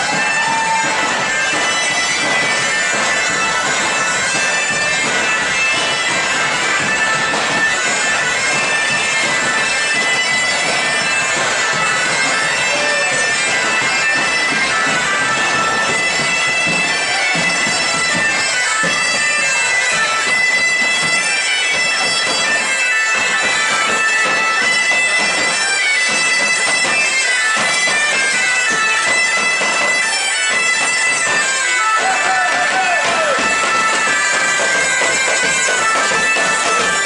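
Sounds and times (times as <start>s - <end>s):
bagpipes playing: 0.0s - 37.0s.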